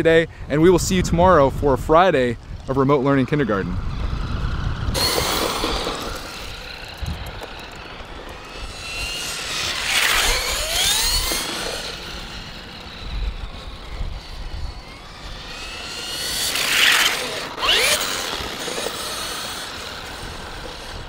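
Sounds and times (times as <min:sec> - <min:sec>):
wind on microphone: 0:00.0 - 0:18.5
rc car motors whining: 0:02.4 - 0:21.0.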